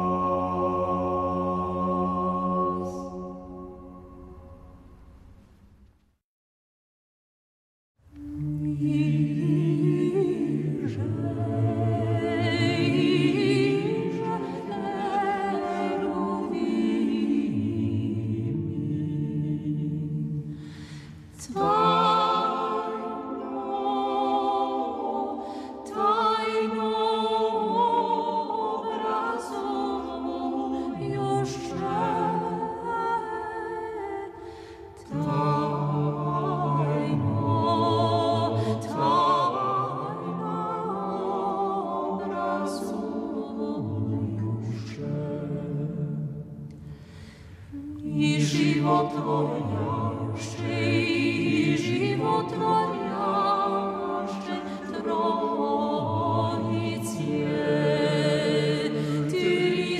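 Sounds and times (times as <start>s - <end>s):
choir chanting a cappella: 0.0s - 5.2s, 8.1s - 59.9s.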